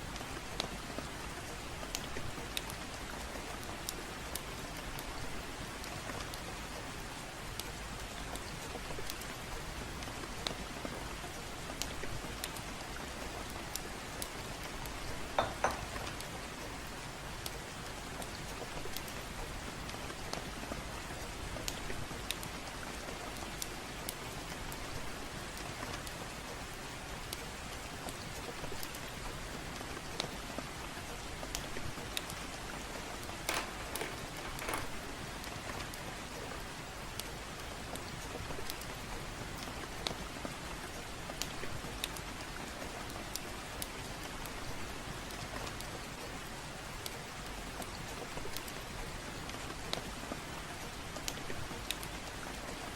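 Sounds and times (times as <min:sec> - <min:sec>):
gentle rain: 0:00.0 - 0:52.9
fireplace crackling and popping: 0:00.1 - 0:52.9.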